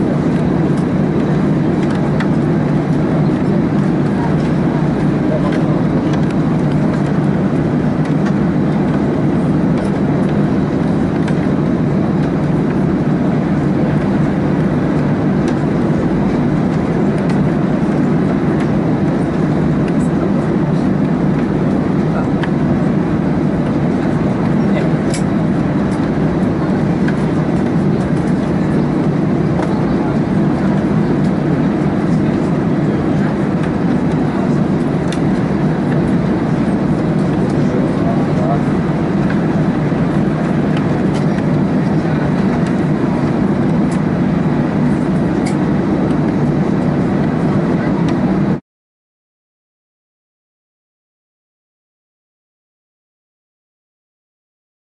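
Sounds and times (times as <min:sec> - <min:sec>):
jet engines low drone in cabin: 0:00.0 - 0:48.6.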